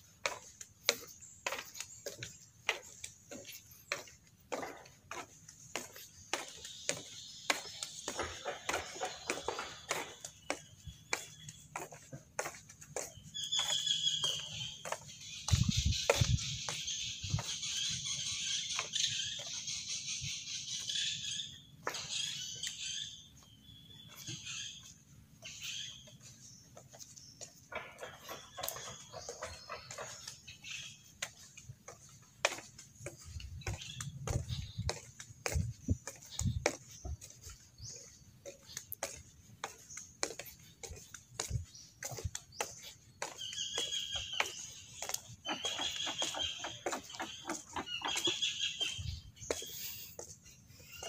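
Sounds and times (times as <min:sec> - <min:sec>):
footsteps on wooden boards: 0:00.0 - 0:51.0
high chirping chorus: 0:00.0 - 0:51.0.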